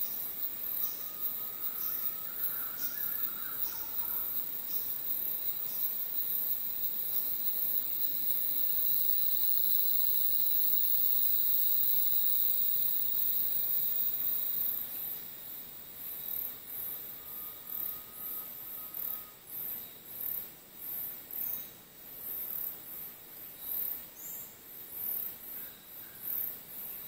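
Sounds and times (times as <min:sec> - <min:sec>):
high-pitched insect whine: 0:00.0 - 0:27.0
insects pulsing trill: 0:00.0 - 0:27.0.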